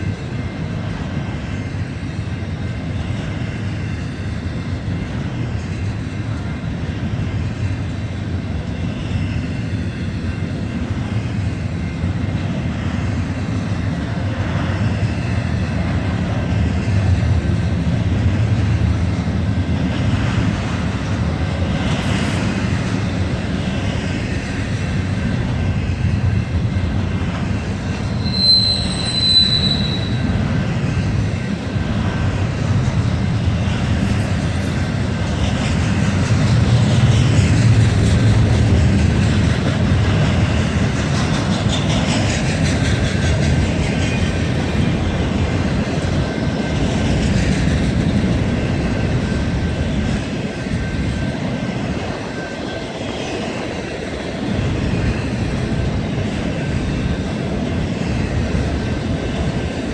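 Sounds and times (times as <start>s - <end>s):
train wheel squeal: 0.0s - 17.4s, 19.0s - 59.9s
freight train rumbling past: 0.0s - 59.9s.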